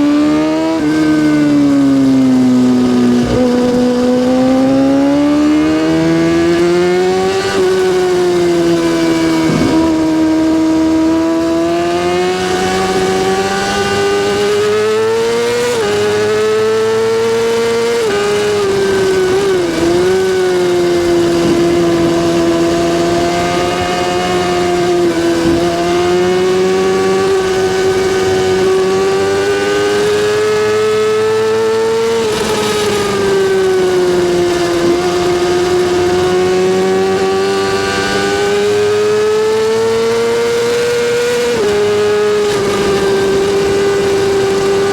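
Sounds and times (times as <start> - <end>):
motorcycle engine at high revs: 0.0 - 44.9.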